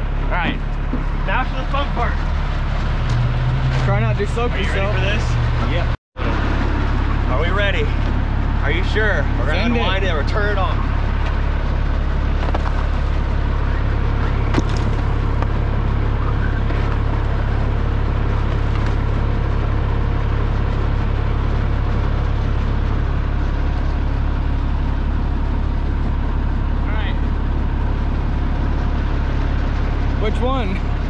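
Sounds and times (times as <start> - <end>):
fire truck engine idling: 0.0 - 3.1, 3.9 - 31.0.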